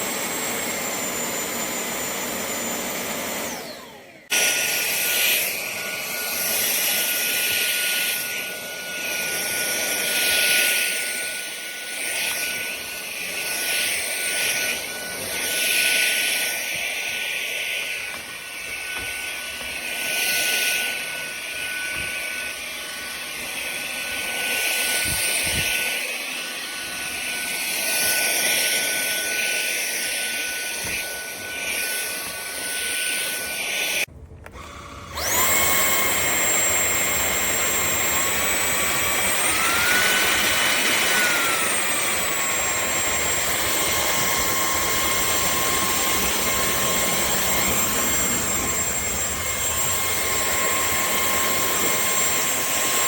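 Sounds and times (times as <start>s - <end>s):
vacuum motor whine: 0.0s - 53.0s.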